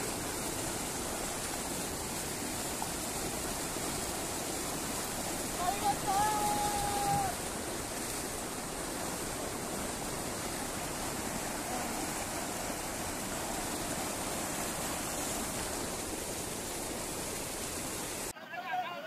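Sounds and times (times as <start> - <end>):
floodwater rushing: 0.0 - 18.3.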